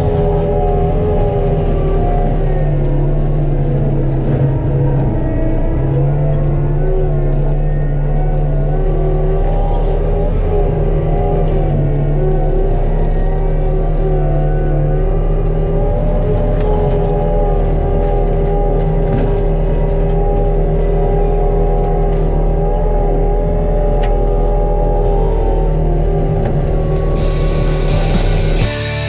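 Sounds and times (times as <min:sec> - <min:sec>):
diesel engine at high revs: 0:00.0 - 0:29.0.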